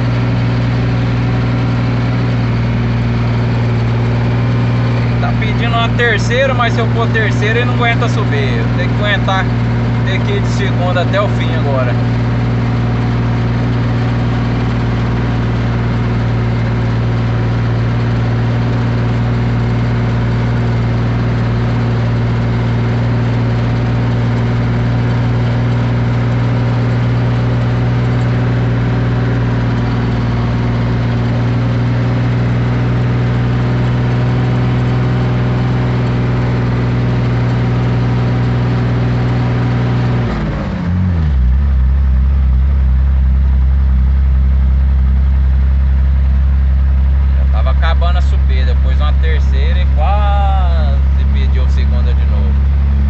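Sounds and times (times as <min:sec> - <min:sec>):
truck engine pulling uphill: 0:00.0 - 0:53.0.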